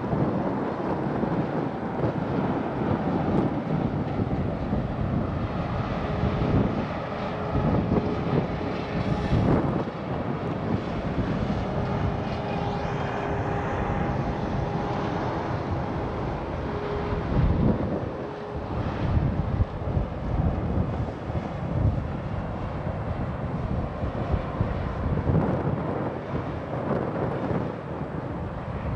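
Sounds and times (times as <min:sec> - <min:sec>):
faint steady whines: 0:00.0 - 0:28.9
freeway traffic rumble: 0:00.0 - 0:28.9
wind on microphone: 0:00.0 - 0:28.9.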